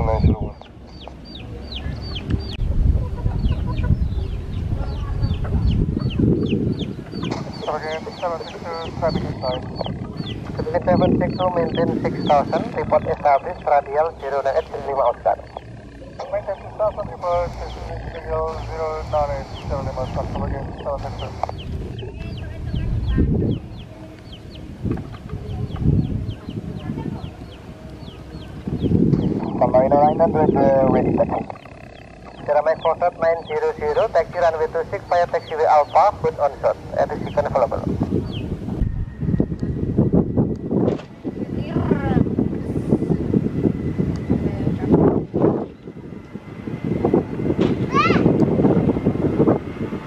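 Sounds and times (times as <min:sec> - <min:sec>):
birds chirping: 0:00.0 - 0:50.0
distant jet engines rumbling: 0:00.0 - 0:50.0.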